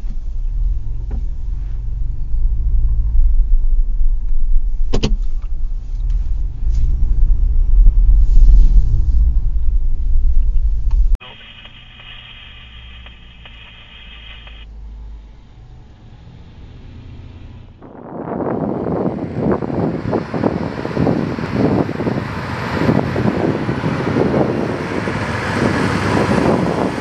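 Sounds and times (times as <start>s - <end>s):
loud rough low rumble: 0.0s - 27.0s.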